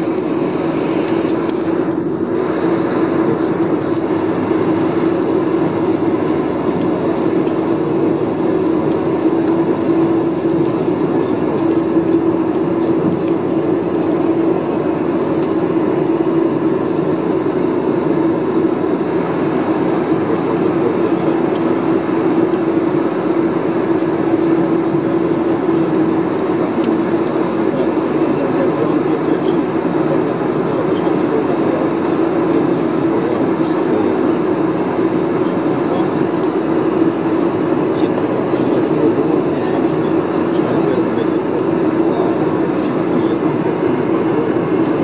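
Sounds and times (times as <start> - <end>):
airplane cabin engine rumble: 0.0 - 45.0
constant low hum: 0.0 - 45.0.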